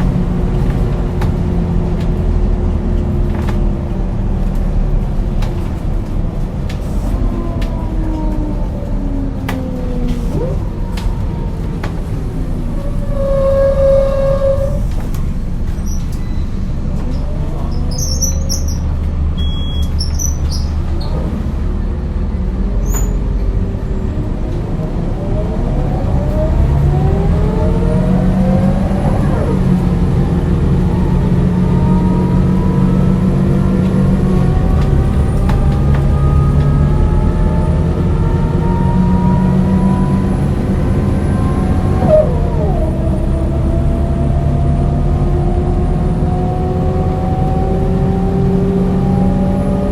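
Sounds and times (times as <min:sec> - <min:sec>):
bus engine pulling away: 0:00.0 - 0:49.9.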